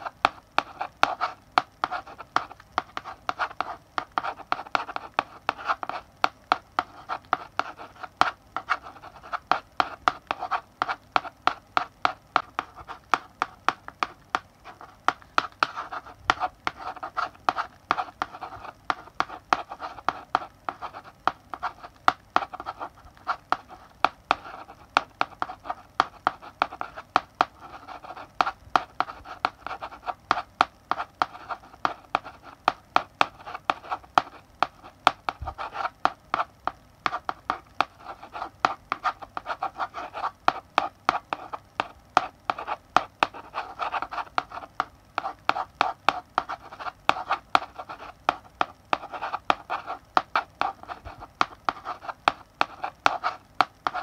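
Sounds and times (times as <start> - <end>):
chalk scratching on blackboard: 0.0 - 54.0
chalk tapping on board: 0.0 - 54.0.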